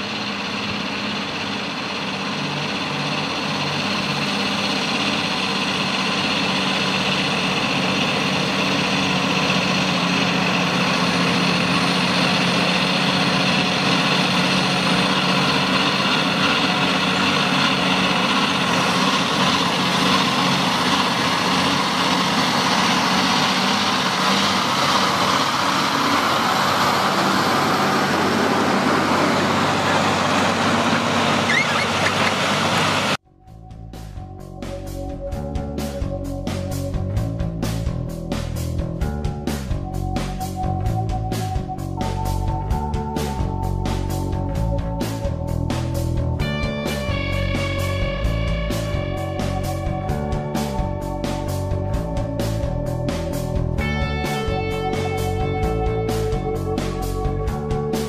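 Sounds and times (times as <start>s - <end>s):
heavy truck engine running: 0.0s - 58.0s.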